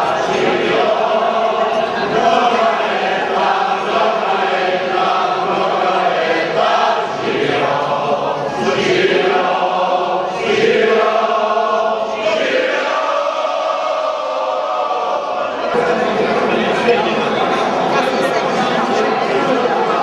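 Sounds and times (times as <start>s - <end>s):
crowd singing together: 0.0s - 20.0s.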